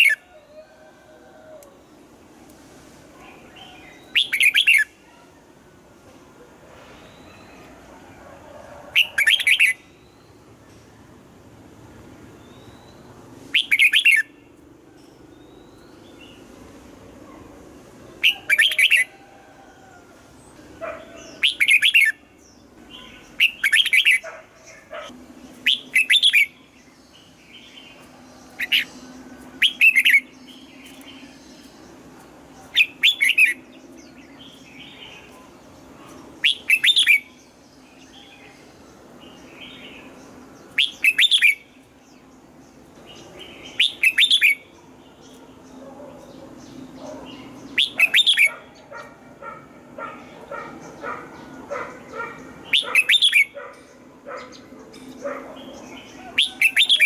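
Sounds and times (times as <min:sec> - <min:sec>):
bird singing: 0:03.2 - 0:05.3, 0:06.9 - 0:07.8, 0:08.9 - 0:11.2, 0:12.3 - 0:57.0.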